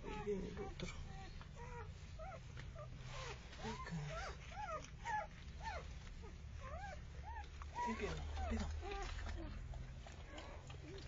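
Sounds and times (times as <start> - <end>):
puppies whimpering: 0.0 - 11.0.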